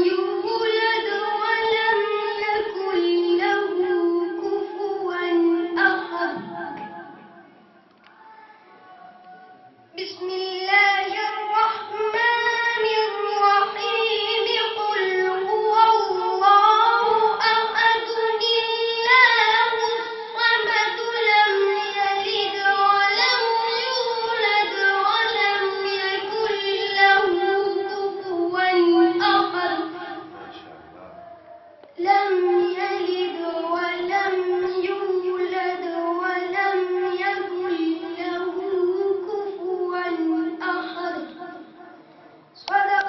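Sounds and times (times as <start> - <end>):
boy chanting melodic recitation: 0.0 - 7.6, 9.9 - 31.2, 31.9 - 43.0.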